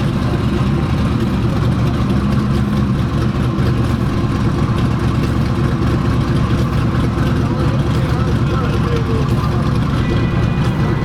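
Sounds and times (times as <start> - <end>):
race car engine idling loudly: 0.0 - 11.0.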